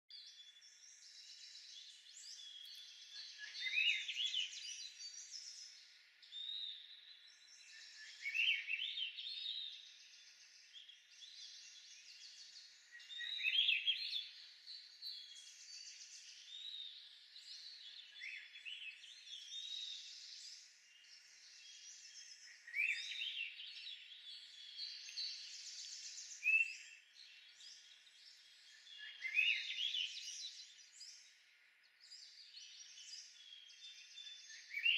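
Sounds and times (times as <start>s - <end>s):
birds chirping and twittering: 0.1s - 34.9s.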